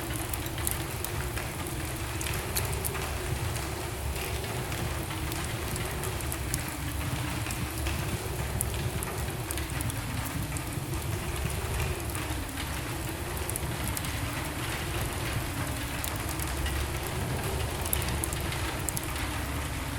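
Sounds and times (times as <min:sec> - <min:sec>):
fire roaring in a fireplace: 0:00.0 - 0:19.9
logs crackling and popping: 0:00.0 - 0:19.9.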